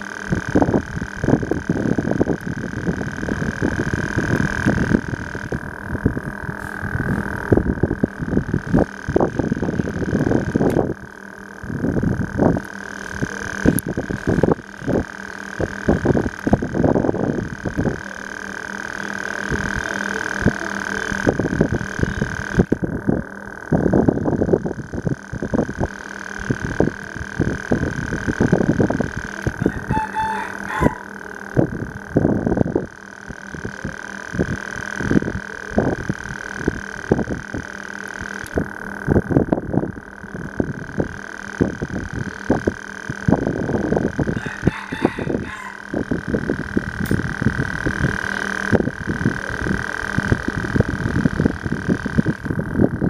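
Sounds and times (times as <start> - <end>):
steady high hum: 0.0 - 53.0.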